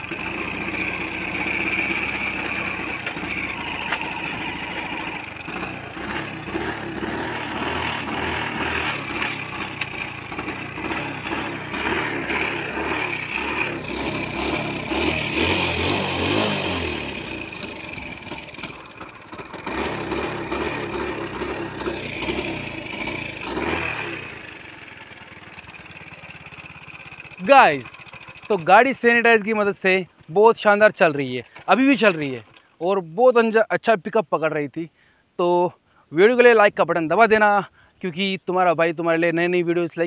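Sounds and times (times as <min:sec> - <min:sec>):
motorcycle engine revving and idling: 0:00.0 - 0:32.9.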